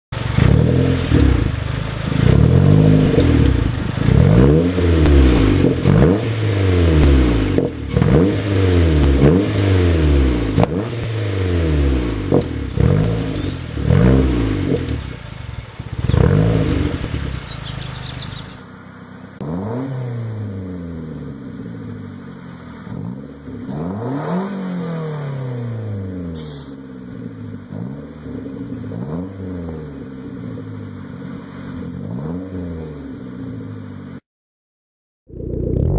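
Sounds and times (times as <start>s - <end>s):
car engine revving: 0.1s - 34.2s, 35.3s - 35.9s.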